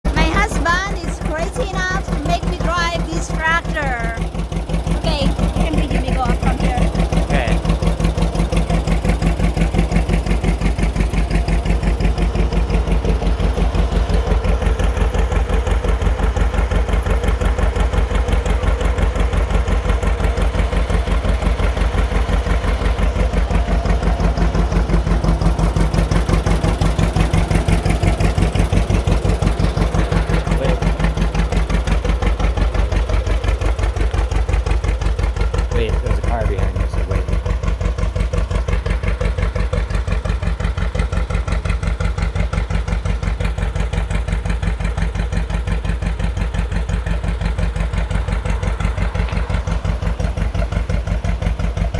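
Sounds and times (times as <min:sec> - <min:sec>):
tractor engine putting: 0:00.0 - 0:51.9.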